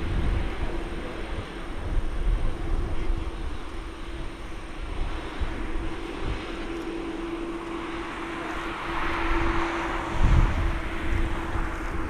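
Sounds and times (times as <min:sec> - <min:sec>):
deep rumble: 0:00.0 - 0:12.0
jet engine roar: 0:00.0 - 0:12.0
low hum: 0:00.0 - 0:12.0.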